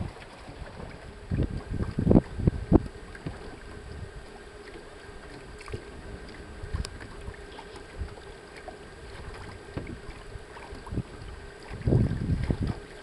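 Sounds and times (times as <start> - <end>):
wind on microphone: 0.0 - 4.3, 5.6 - 8.3, 9.0 - 13.0
water moving against boat: 0.0 - 13.0.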